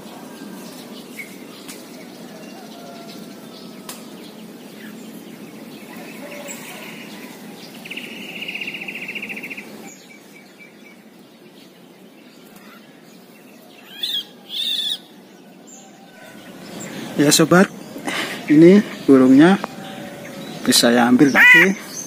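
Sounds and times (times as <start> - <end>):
harsh bird calls: 0.0 - 22.0.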